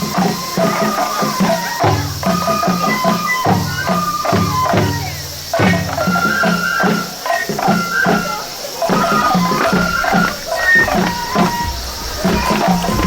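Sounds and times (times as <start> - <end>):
bamboo flute melody: 0.0 - 13.0
taiko drum strokes: 0.0 - 13.0.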